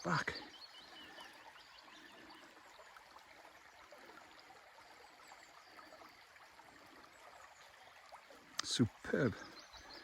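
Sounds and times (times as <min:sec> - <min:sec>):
faint stream running: 0:00.0 - 0:10.0.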